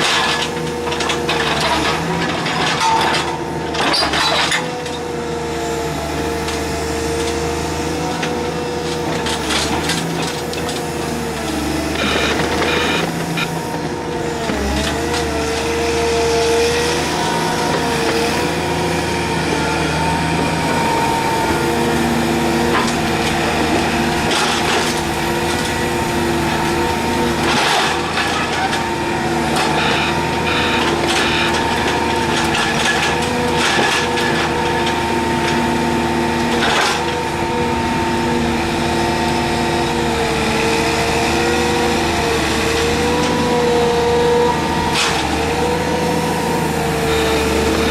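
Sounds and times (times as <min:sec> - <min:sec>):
excavator engine and hydraulics: 0:00.0 - 0:47.9.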